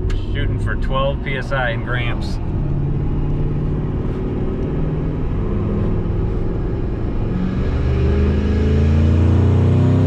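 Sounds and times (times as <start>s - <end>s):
truck engine accelerating hard: 0.0s - 10.0s.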